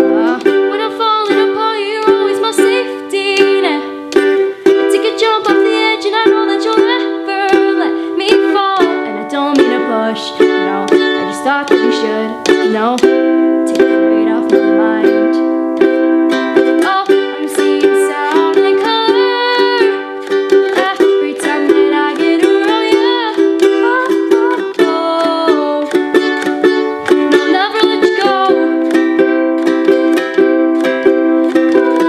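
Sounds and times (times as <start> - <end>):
girl singing: 0.0 - 32.0
ukulele strumming chords: 0.0 - 32.0.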